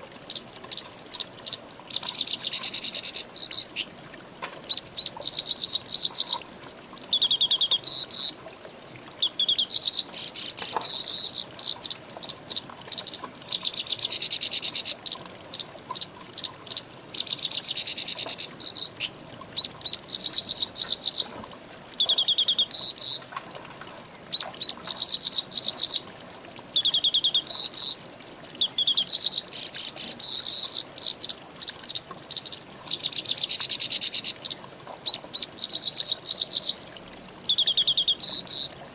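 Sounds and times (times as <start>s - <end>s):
songbird chirping: 0.1s - 3.9s, 4.7s - 23.5s, 24.3s - 38.9s.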